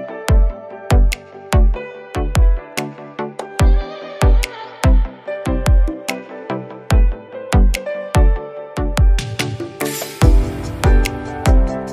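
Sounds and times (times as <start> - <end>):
electronic music with heavy bass: 0.0 - 11.9.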